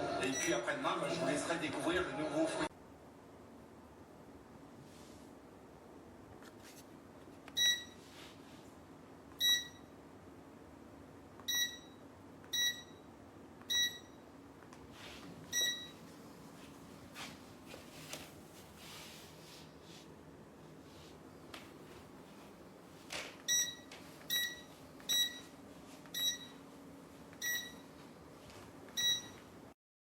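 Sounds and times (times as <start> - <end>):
faint steady hum: 0.0 - 29.8.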